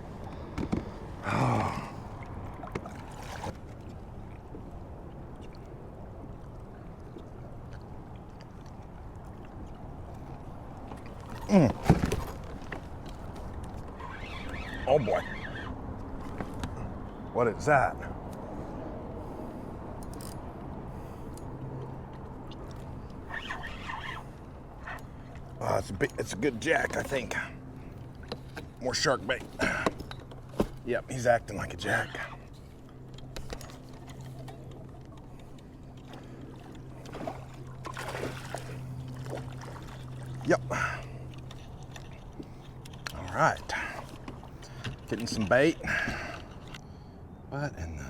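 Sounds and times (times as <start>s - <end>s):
water lapping against hull: 0.0s - 46.8s.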